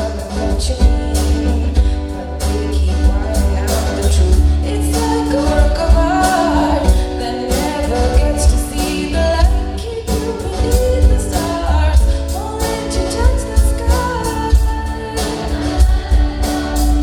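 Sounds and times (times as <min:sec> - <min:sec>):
bass beat with drum hits: 0:00.0 - 0:17.0
person singing: 0:00.0 - 0:17.0.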